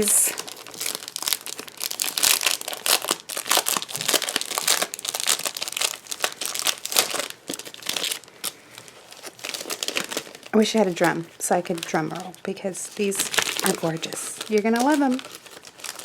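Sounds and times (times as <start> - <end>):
foil packaging crinkling: 0.0 - 16.0.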